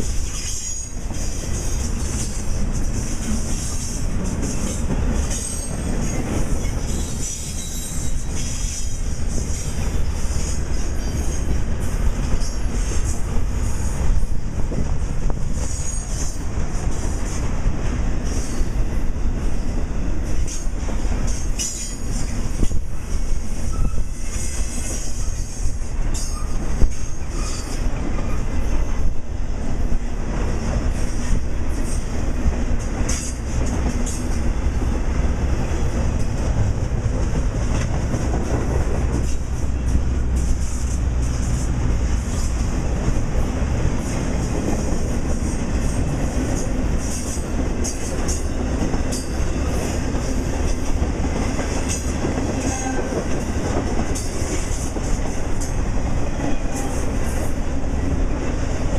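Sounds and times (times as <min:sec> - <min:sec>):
freight train rolling past: 0:00.0 - 0:58.9.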